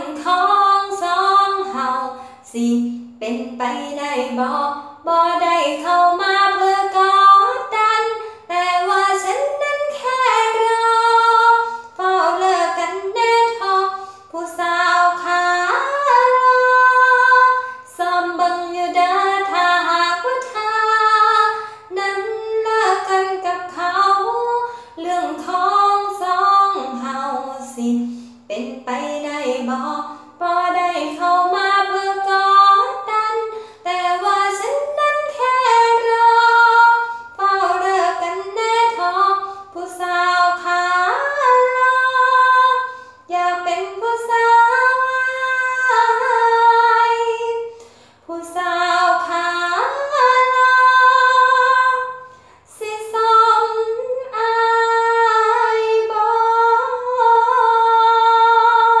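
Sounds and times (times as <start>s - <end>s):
woman singing unaccompanied: 0.0s - 59.0s.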